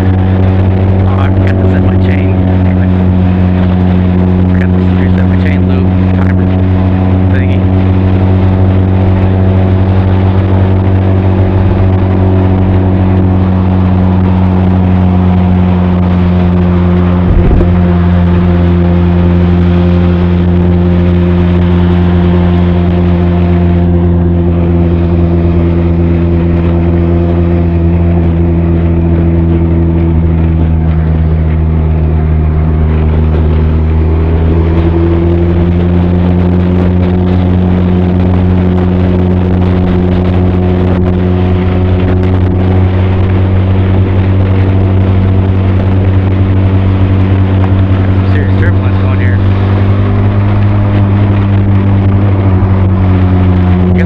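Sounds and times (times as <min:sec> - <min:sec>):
motorcycle engine and exhaust cruising: 0:00.0 - 0:54.0.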